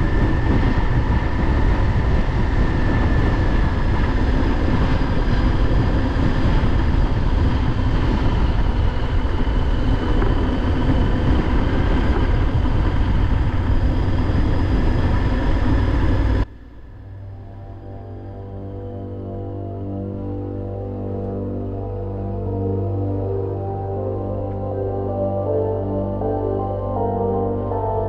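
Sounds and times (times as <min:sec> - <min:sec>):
wind noise: 0:00.0 - 0:28.0.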